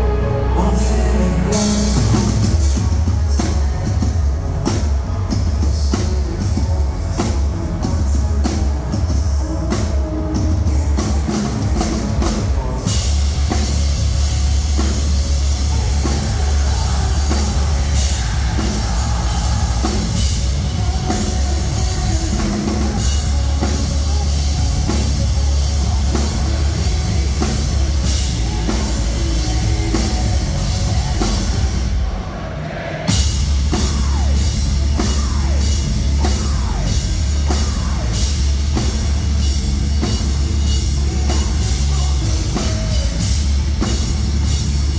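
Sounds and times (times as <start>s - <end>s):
heavy distorted guitars: 0.0s - 44.9s
metal band playing live: 0.0s - 44.9s
pounding drums: 1.5s - 44.9s.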